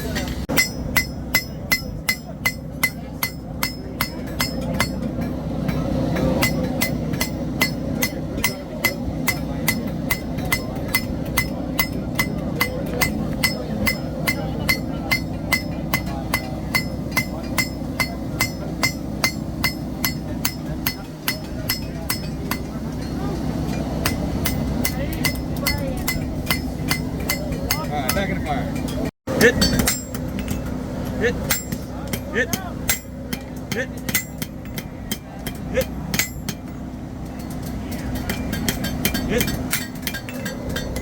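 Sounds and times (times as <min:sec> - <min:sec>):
hammer striking steel on anvil: 0:00.0 - 0:41.0.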